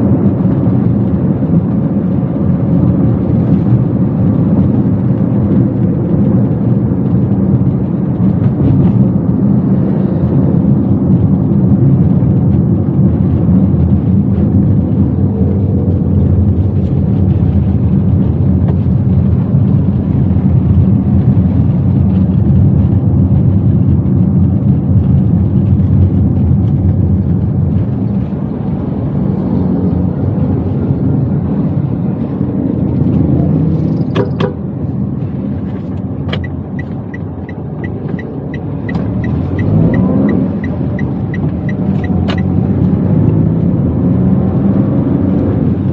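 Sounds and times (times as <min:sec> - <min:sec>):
car engine and road noise in cabin: 0:00.0 - 0:45.9.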